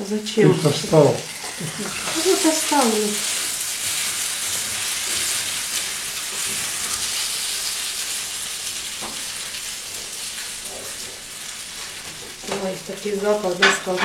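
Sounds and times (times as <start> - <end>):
food sizzling in frying pan: 0.0 - 14.0.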